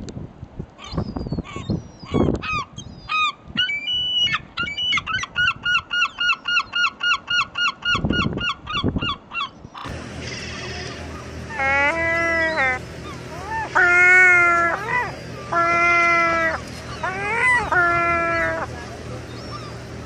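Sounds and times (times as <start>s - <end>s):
low wind gusts: 0.0s - 20.0s
gull calling: 0.8s - 20.0s.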